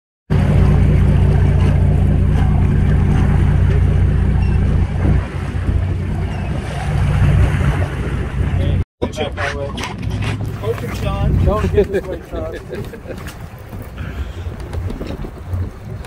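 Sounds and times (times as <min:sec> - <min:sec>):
boat engine running: 0:00.3 - 0:16.0
water noise: 0:00.3 - 0:16.0
wind: 0:00.3 - 0:16.0.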